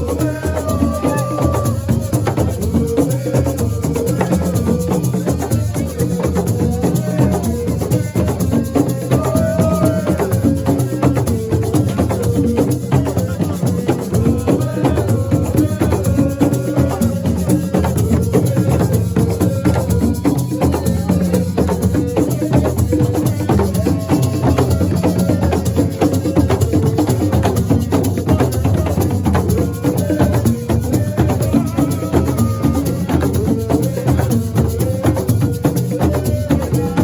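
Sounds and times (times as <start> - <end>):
shaker rattles: 0.0 - 37.0.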